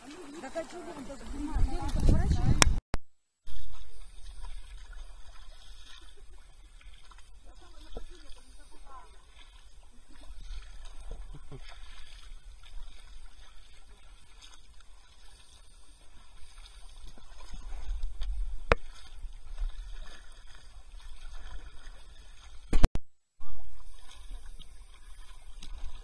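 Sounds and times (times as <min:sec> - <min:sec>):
paddles splashing in water: 0:00.0 - 0:02.8, 0:03.5 - 0:22.9, 0:23.6 - 0:26.0.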